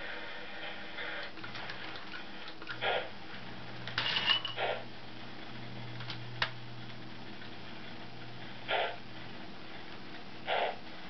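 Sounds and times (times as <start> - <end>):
toy train electric hum: 0.0 - 11.0.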